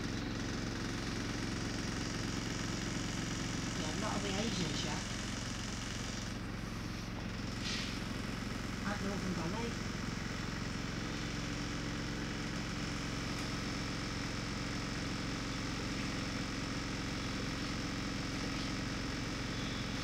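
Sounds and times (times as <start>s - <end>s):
diesel bus engine idling: 0.0s - 20.0s.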